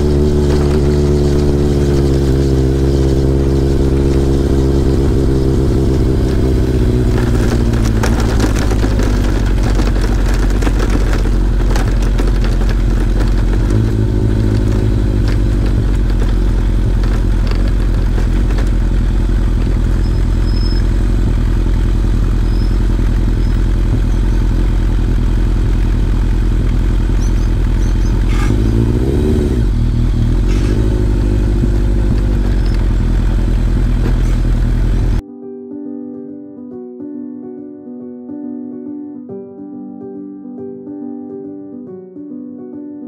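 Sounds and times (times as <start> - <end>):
motorcycle engine at low revs: 0.0 - 35.2.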